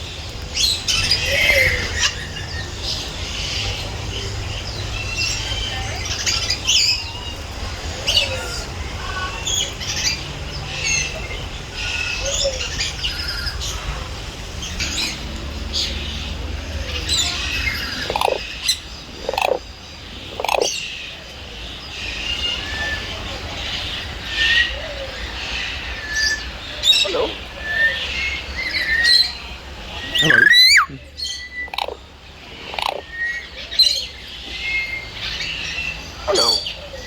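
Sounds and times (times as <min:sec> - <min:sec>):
birds chirping and calling: 0:00.0 - 0:37.0
loud low bird calls: 0:00.6 - 0:37.0.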